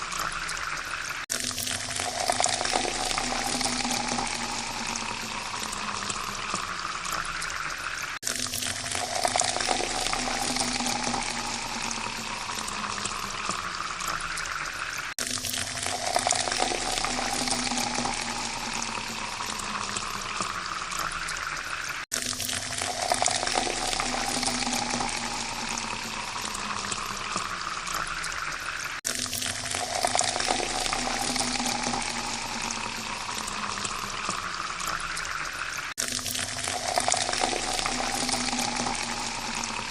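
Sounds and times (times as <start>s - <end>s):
water pouring into a glass: 0.0s - 39.9s.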